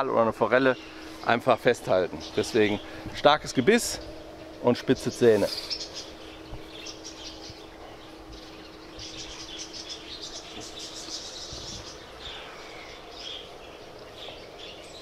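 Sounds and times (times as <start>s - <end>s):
faint steady hum: 0.0s - 15.0s
songbirds chirping: 0.0s - 15.0s.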